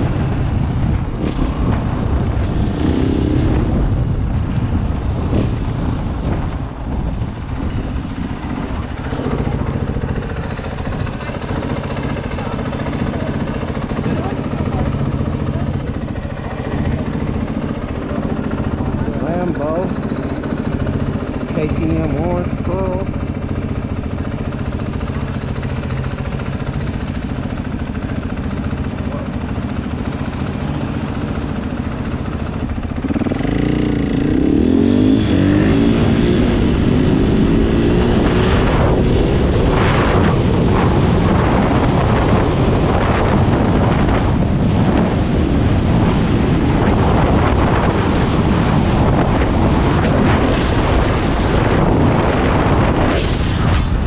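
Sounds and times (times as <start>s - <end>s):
motorcycle engine idling and revving: 0.0s - 54.0s
wind rushing over microphone: 0.0s - 54.0s.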